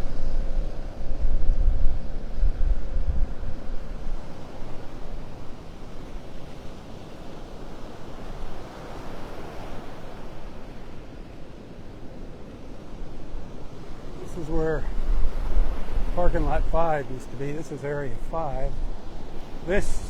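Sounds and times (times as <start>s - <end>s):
surf washing on beach: 0.0s - 20.0s
wind on microphone: 0.0s - 20.0s.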